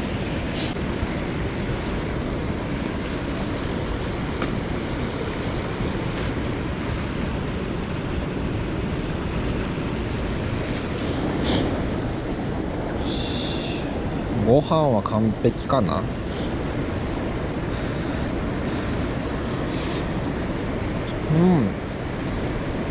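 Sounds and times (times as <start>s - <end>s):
mountain stream rushing: 0.0s - 22.9s.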